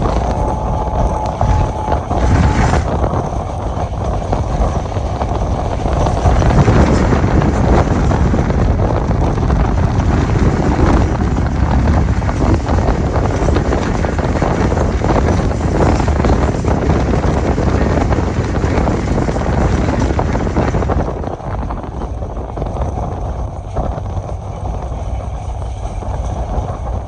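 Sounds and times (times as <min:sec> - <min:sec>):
train rumble: 0:00.0 - 0:27.0
wind buffeting microphone: 0:00.0 - 0:27.0.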